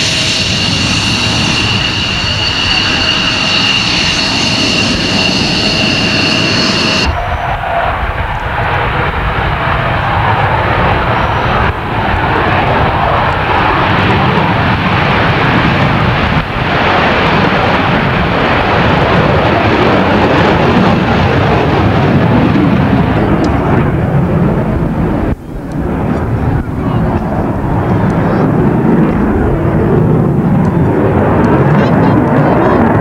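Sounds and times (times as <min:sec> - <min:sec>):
jet engine roar on takeoff: 0:00.0 - 0:33.0.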